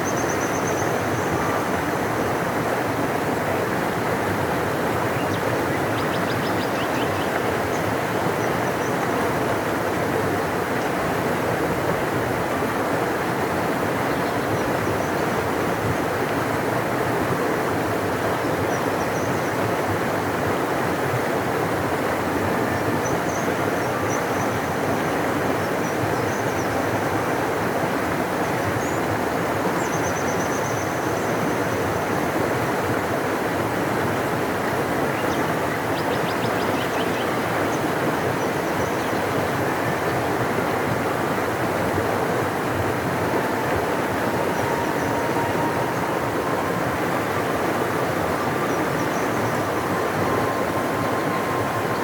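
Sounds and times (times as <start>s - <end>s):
river flowing: 0.0s - 52.0s.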